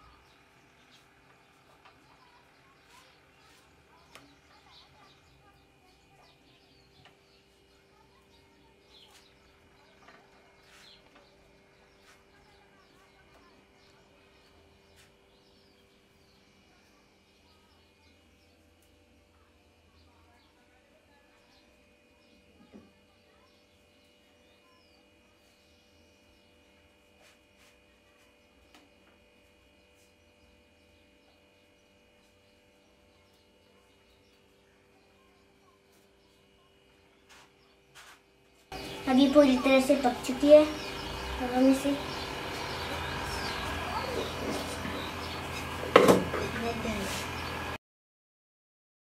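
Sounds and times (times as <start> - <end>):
faint hum: 0.0 - 47.8.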